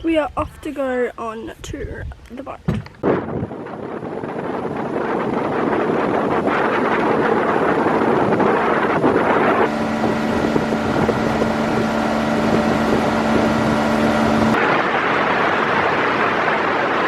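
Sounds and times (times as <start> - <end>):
wind buffeting microphone: 0.0 - 17.0
motorboat engine running: 2.9 - 17.0.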